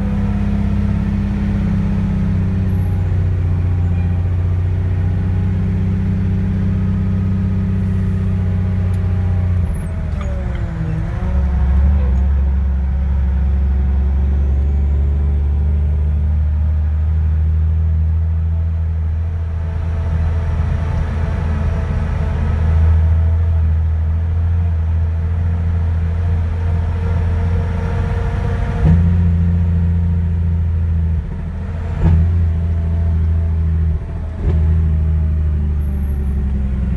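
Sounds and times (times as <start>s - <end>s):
truck engine drone: 0.0s - 36.9s.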